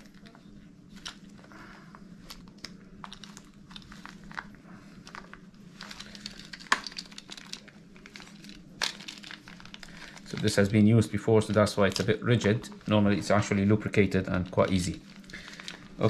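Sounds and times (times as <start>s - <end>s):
plastic crinkling: 0.0s - 16.0s.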